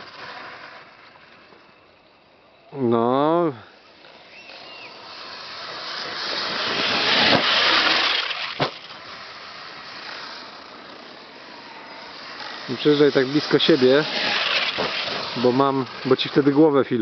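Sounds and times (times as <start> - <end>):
rc truck rushing over grass: 0.0 - 17.0.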